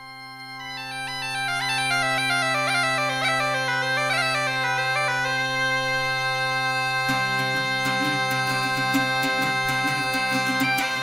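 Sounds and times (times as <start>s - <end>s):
bagpipe chanter melody: 0.0s - 11.0s
bagpipe drone: 0.0s - 11.0s.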